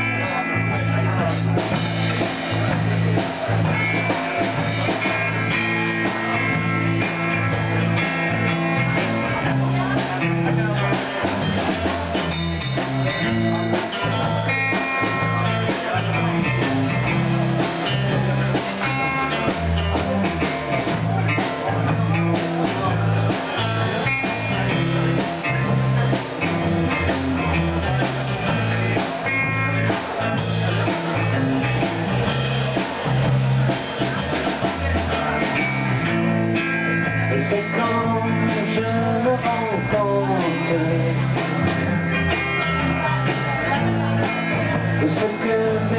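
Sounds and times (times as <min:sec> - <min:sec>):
electric guitar: 0:00.0 - 0:45.9
live rock band playing: 0:00.0 - 0:45.9.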